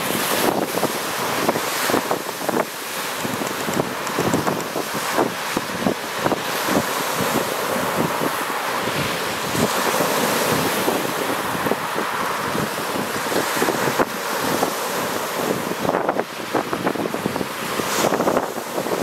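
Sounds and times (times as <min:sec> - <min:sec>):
waves breaking on pebbly shore: 0:00.0 - 0:19.0
wind buffeting microphone: 0:00.0 - 0:19.0.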